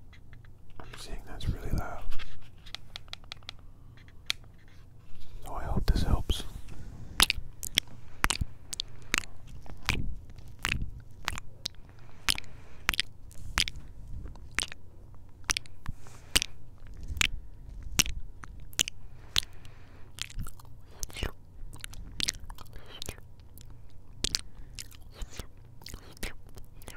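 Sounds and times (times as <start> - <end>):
lip smacks and pops: 2.6 - 4.6, 7.2 - 26.9.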